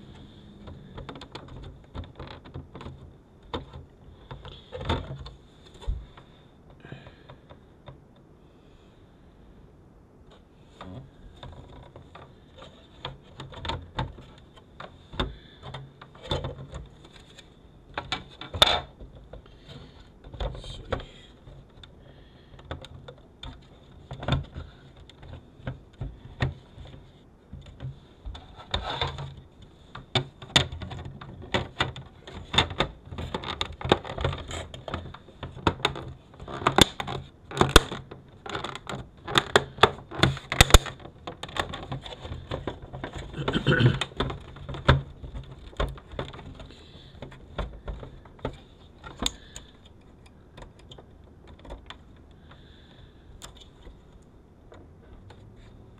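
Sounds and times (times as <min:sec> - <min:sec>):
plastic and metal clicks and knocks: 0:00.1 - 0:08.2, 0:10.3 - 0:52.7.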